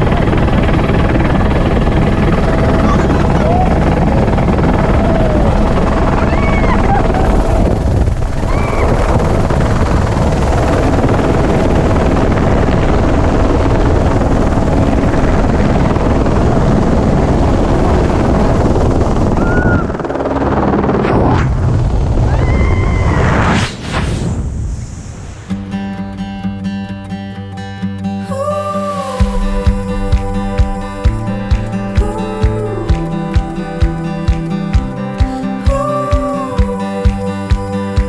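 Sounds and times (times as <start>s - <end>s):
wind rushing: 0.0s - 26.6s, 29.0s - 36.3s
helicopter rotor and turbine: 0.0s - 26.9s, 28.5s - 38.0s.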